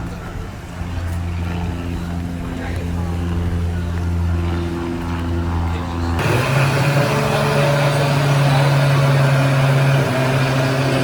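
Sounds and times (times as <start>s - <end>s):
constant background noise: 0.0s - 11.0s
low mechanical hum: 0.0s - 11.0s.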